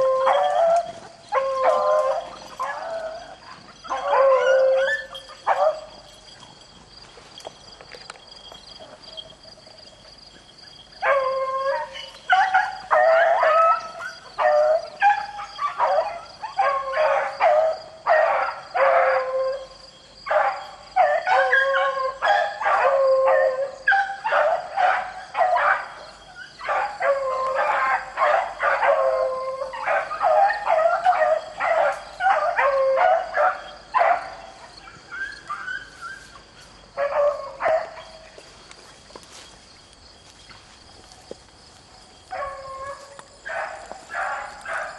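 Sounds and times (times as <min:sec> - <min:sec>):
hounds baying: 0:00.0 - 0:39.5, 0:42.2 - 0:44.9.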